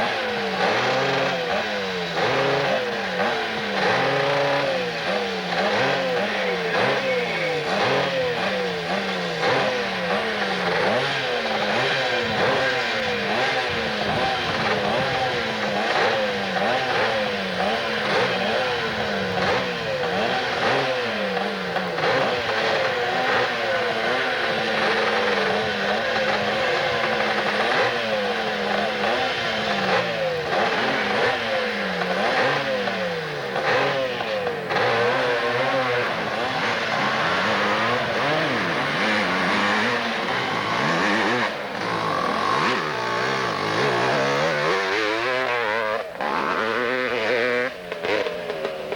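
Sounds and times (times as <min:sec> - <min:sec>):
motorcycle engine revving hard: 0:00.0 - 0:48.9.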